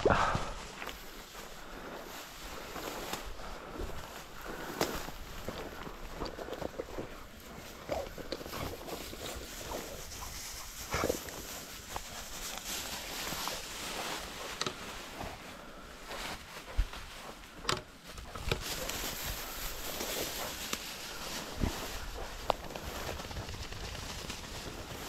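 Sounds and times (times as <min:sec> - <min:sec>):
footsteps rustling through field cover: 0:00.0 - 0:25.0.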